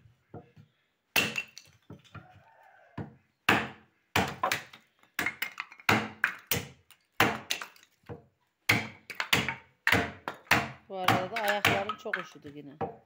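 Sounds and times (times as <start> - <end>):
hatchet chopping wood: 0.4 - 2.1, 3.0 - 13.0.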